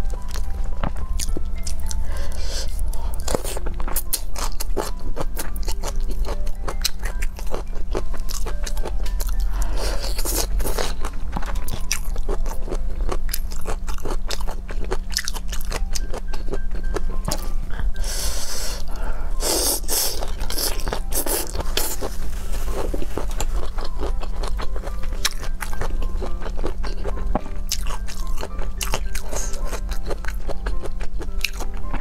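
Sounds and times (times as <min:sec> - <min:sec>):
crunchy biting and chewing: 0:00.0 - 0:32.0
steady low hum: 0:00.0 - 0:32.0.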